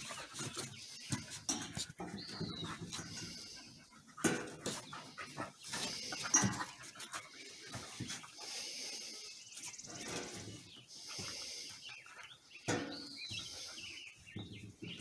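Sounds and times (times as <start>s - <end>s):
puppies breathing: 0.0s - 15.0s
puppies scuffling and mouthing: 0.0s - 15.0s.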